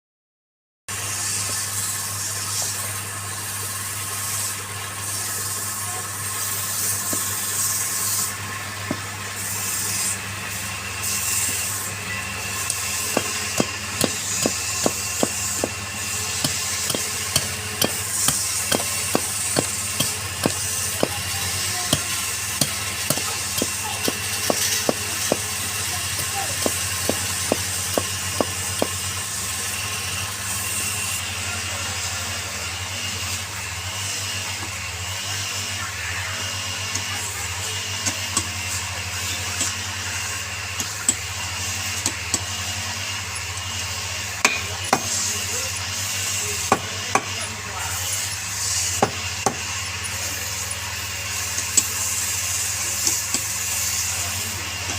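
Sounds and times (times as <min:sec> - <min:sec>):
turning tool cutting wood: 0:00.9 - 0:35.8, 0:36.6 - 0:54.9
wood lathe motor running: 0:00.9 - 0:54.9.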